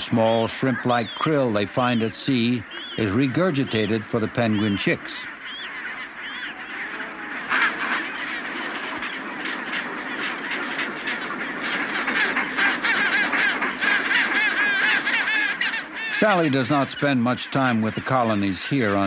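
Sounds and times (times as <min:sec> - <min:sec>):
penguins squawking: 0:00.0 - 0:19.0.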